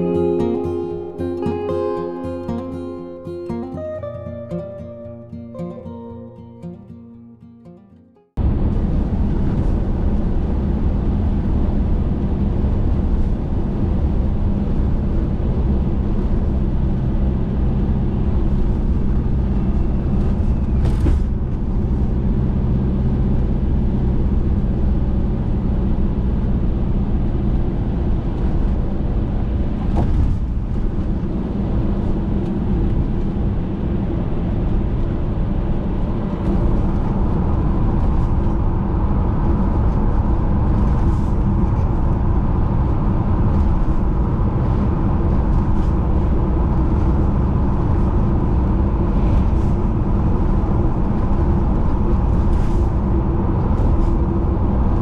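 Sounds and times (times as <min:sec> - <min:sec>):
van engine drone: 0:08.4 - 0:55.0.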